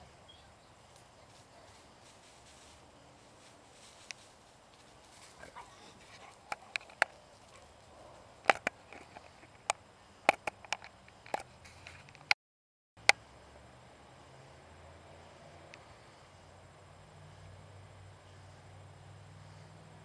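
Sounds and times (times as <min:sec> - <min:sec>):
faint steady background noise: 0:00.0 - 0:12.4, 0:13.0 - 0:20.0.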